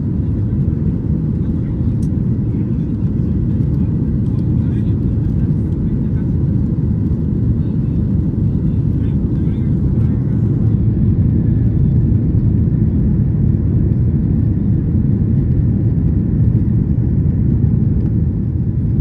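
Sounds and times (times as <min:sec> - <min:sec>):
airplane engines and airflow rumble: 0:00.0 - 0:19.0.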